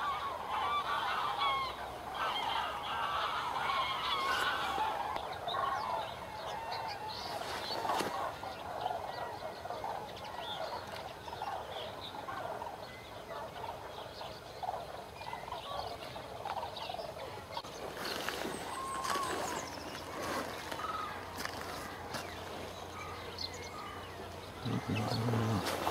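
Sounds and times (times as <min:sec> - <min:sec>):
flock of cranes trumpeting: 0:00.0 - 0:15.8, 0:18.0 - 0:25.9.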